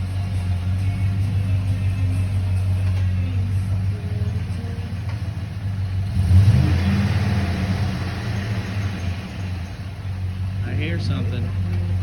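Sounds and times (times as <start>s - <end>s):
truck engine running and revving: 0.0s - 12.0s.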